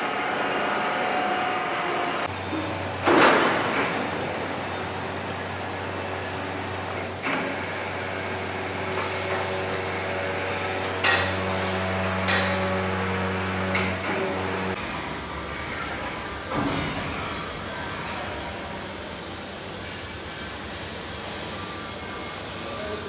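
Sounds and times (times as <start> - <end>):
low hum of machinery: 0.0 - 23.0.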